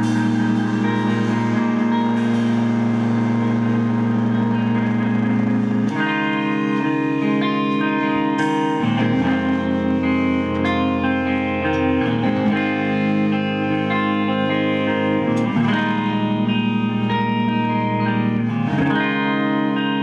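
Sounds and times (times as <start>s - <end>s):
electric guitar through effects: 0.0s - 20.0s
live band music: 0.0s - 20.0s.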